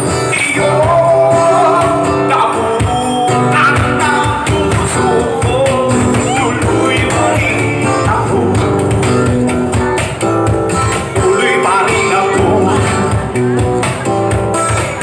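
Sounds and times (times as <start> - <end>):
cajon beat: 0.0 - 15.0
strummed acoustic guitar: 0.0 - 15.0.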